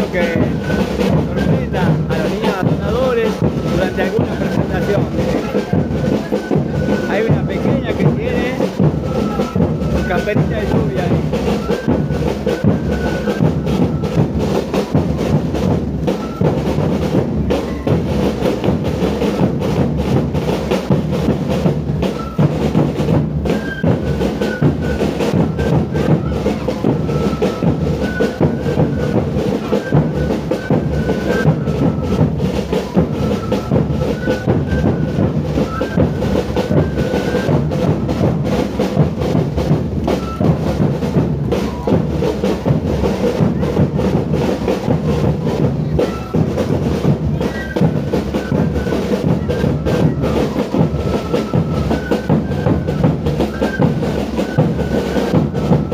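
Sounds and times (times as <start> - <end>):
thin high melody: 0.0 - 19.5, 22.0 - 39.1, 44.7 - 55.9
drums playing steady beat: 0.0 - 55.9.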